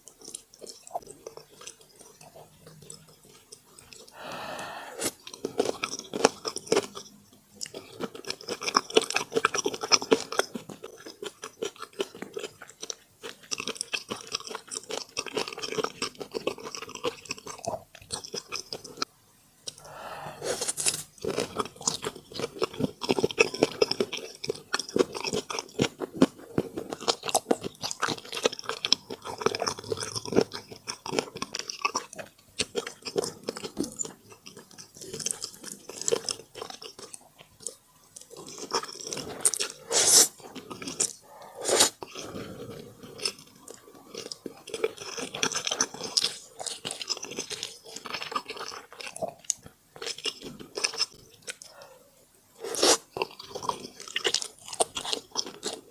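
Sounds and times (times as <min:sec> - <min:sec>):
crunchy chewing and biting: 0:00.0 - 0:19.1, 0:19.7 - 0:52.0, 0:52.6 - 0:55.9
wet mouth sounds: 0:00.1 - 0:19.1, 0:19.7 - 0:51.9, 0:52.6 - 0:55.9.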